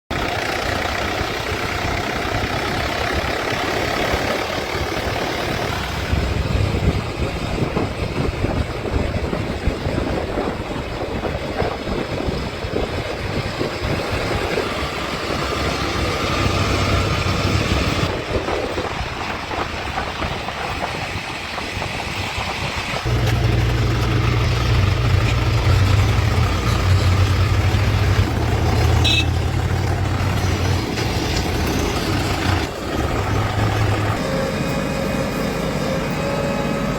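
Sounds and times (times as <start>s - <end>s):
diesel engines running: 0.1s - 36.9s
low engine hum: 0.1s - 36.9s.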